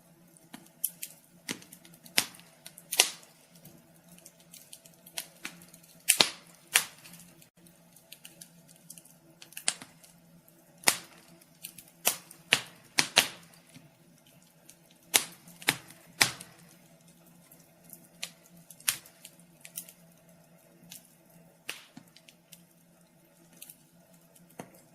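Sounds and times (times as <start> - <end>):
faint steady hum: 0.0 - 24.9
wood fire crackling: 0.0 - 24.9.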